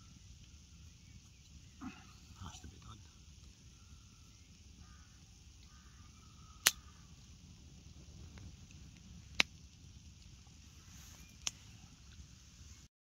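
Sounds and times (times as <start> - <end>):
burning wood popping: 0.0 - 12.9
campfire burning: 0.0 - 12.9.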